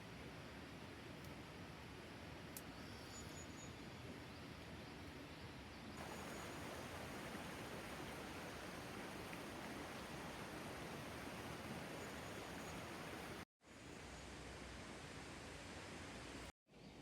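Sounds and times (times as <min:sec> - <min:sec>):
faint night ambience hiss: 0:00.0 - 0:16.9.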